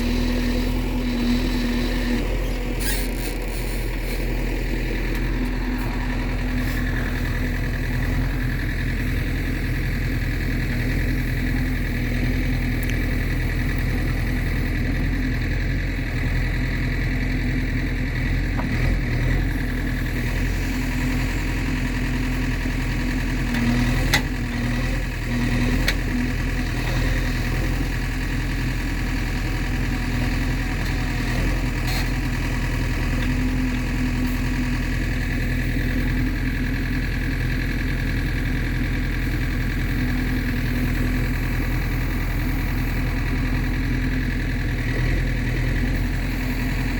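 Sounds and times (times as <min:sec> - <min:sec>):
diesel engine running at low revs: 0:00.0 - 0:46.9.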